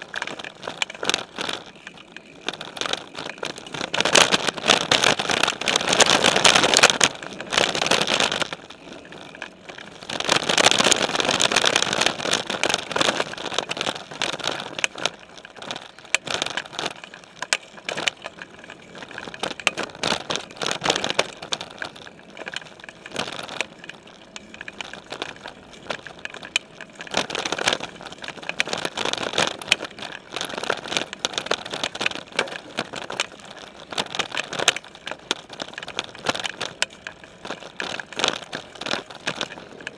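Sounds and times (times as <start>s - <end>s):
bike rattling over bumps: 0.0s - 39.9s
tyres crunching on dirt: 0.0s - 39.9s.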